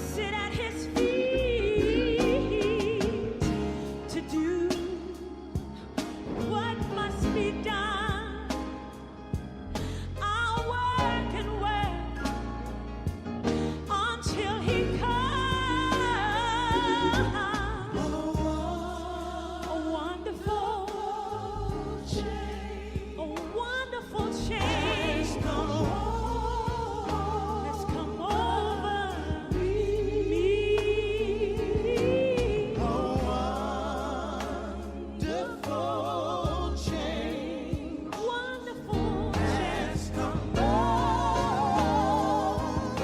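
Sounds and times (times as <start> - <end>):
bass and keyboard accompaniment: 0.0 - 43.0
gospel singing with vibrato: 0.0 - 43.0.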